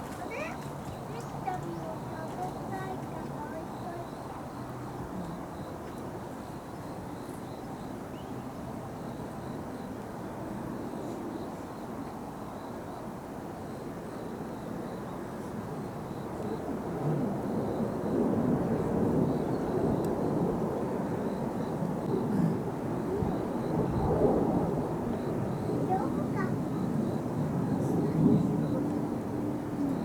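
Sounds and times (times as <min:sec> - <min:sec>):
distant jet rumble: 0:00.0 - 0:30.0.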